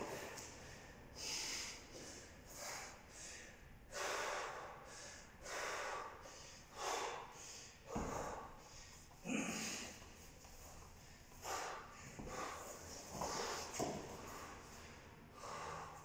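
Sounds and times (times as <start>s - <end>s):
man breathing heavily: 0.0s - 16.0s.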